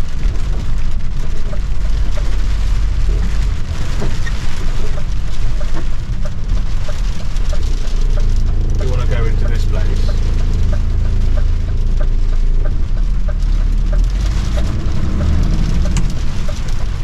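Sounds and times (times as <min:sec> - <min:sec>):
hail pelting a truck: 0:00.0 - 0:17.0
truck engine and road rumble: 0:00.0 - 0:17.0.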